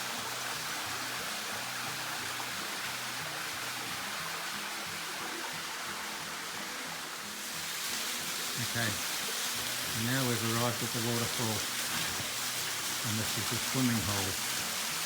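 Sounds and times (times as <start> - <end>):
creek water and waterfall rushing: 0.0 - 15.0.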